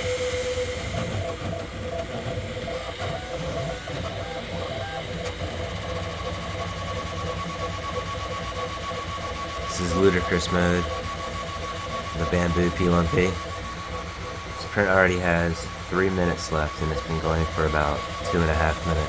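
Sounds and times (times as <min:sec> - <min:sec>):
printer mechanical whirr: 0:00.0 - 0:19.0
thin steady whine: 0:00.0 - 0:19.0.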